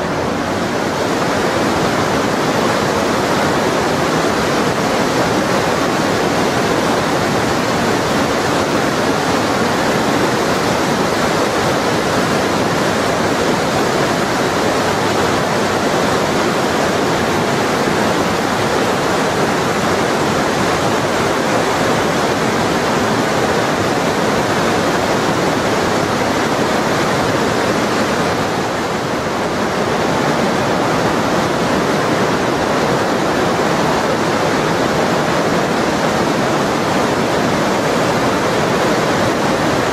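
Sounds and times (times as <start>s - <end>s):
river rushing through gorge: 0.0s - 39.9s.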